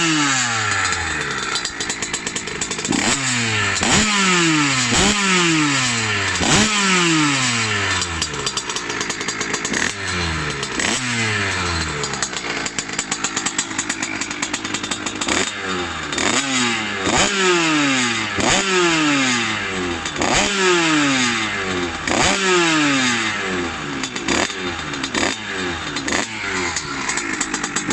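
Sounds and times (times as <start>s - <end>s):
two-stroke motorcycle engine revving: 0.0s - 27.9s.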